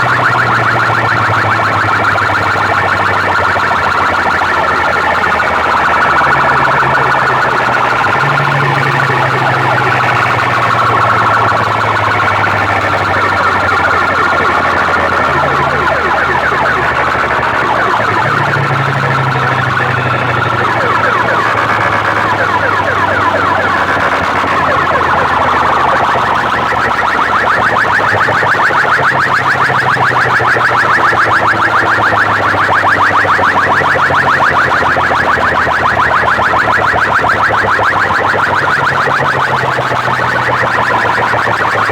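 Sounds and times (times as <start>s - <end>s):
siren-like electronic warble: 0.0s - 41.9s.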